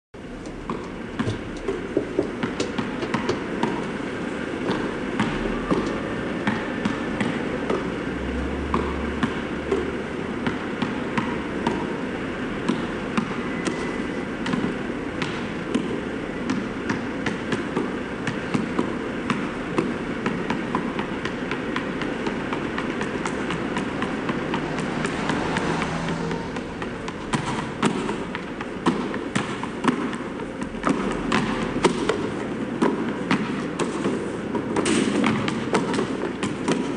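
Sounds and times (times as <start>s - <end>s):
basketballs bouncing on asphalt: 0.3s - 36.9s.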